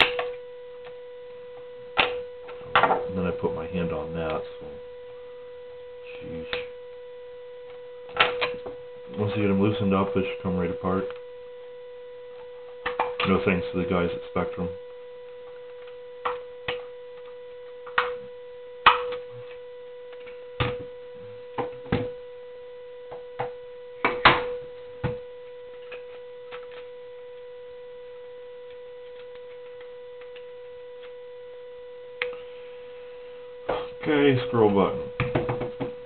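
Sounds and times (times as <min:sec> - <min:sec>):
high-pitched electrical buzz: 0:00.0 - 0:36.0.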